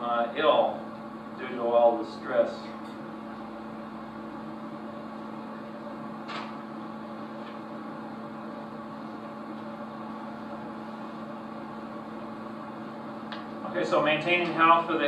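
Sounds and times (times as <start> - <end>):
electrical hum with tape hiss: 0.0 - 15.0.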